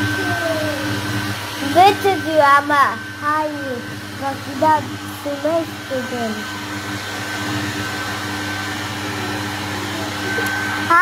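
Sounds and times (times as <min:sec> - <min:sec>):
hair dryer whirring: 0:00.0 - 0:11.0.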